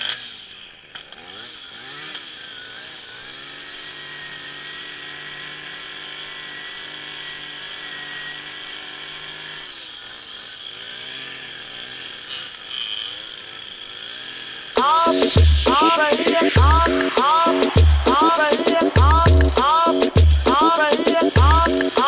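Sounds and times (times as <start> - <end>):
small two-stroke engine running: 0.0 - 22.0.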